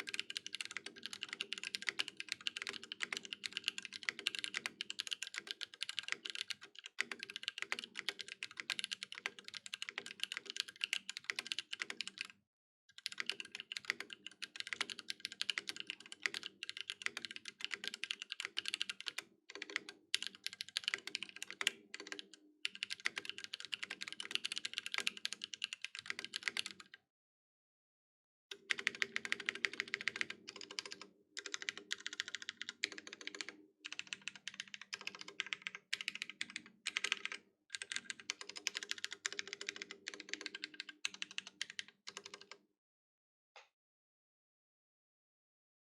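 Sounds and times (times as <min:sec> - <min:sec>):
mechanical keyboard typing: 0:00.0 - 0:12.3, 0:12.9 - 0:27.0, 0:28.5 - 0:42.6.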